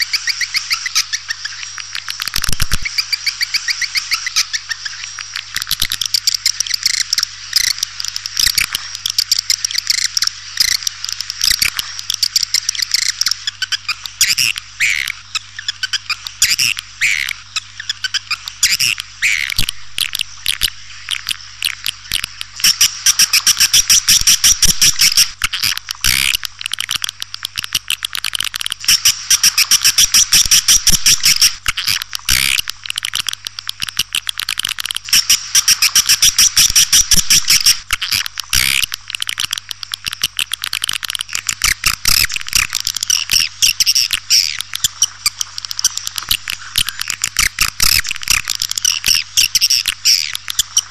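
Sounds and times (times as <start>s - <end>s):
swiftlet clicking twitters and chirps: 0.0s - 50.9s.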